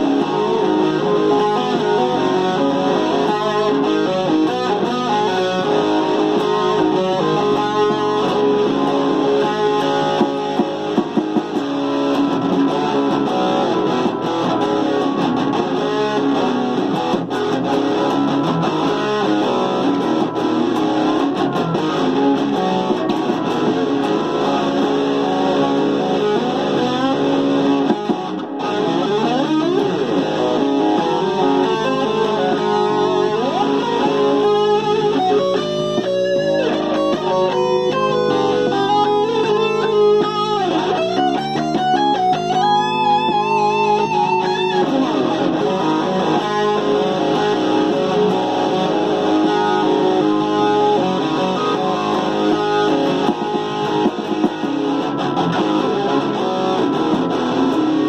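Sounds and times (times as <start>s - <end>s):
electric guitar playing rock: 0.0s - 58.0s.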